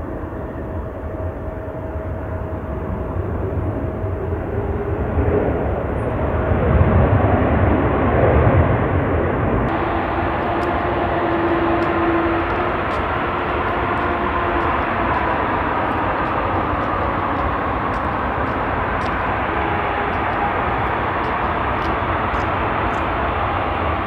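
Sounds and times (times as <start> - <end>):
faint jet engine whine: 0.0 - 24.0
jet engines rushing: 2.2 - 24.0.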